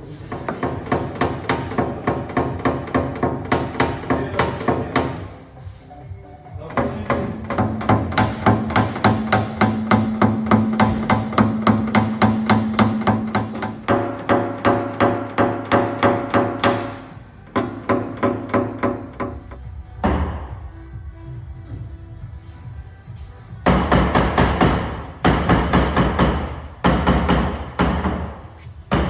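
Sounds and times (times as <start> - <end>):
hammer tapping on sheet metal: 0.3 - 5.4, 6.7 - 20.5, 23.6 - 29.0.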